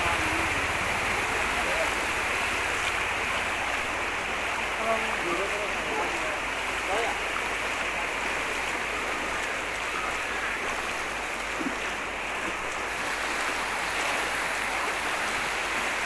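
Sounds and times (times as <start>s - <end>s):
floodwater rushing and splashing: 0.0s - 16.0s.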